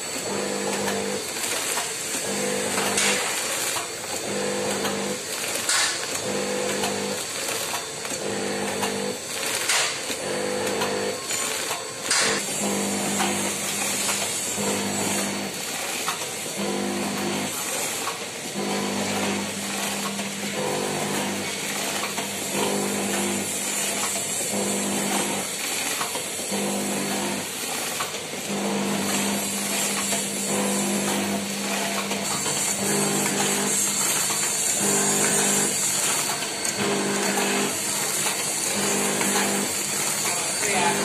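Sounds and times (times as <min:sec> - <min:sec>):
packing machine hiss and clatter: 0:00.0 - 0:41.0.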